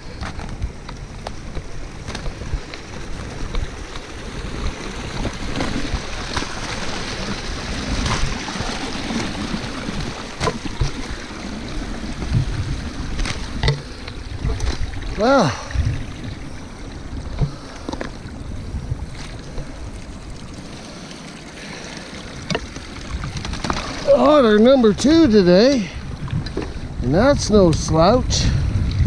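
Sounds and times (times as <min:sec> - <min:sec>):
water sloshing and splashing: 0:00.1 - 0:26.9.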